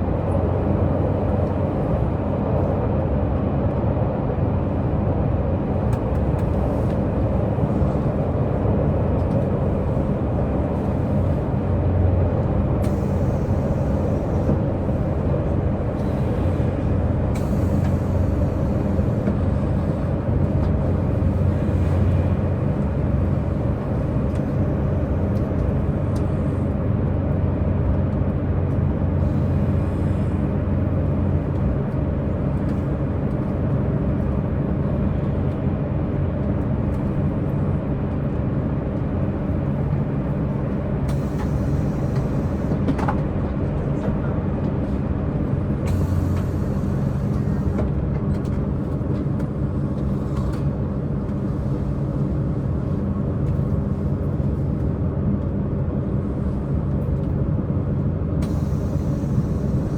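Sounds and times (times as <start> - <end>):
train diesel engines humming: 0.0 - 59.9.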